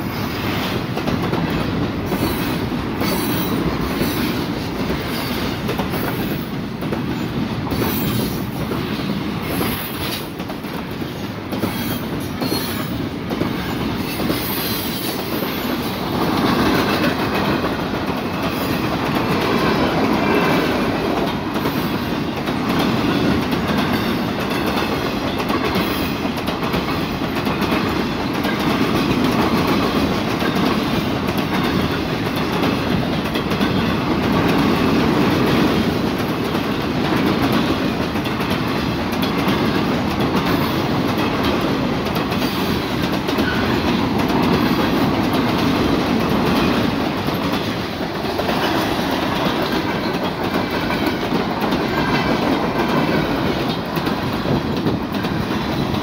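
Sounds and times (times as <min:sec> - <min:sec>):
steel wheels rumbling on rail: 0:00.0 - 0:56.0
wheels clicking over rail joints: 0:00.6 - 0:56.0.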